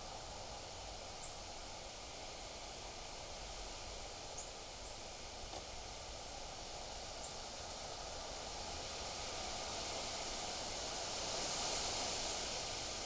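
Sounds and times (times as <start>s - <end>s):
wind rustling through trees: 0.0s - 13.0s.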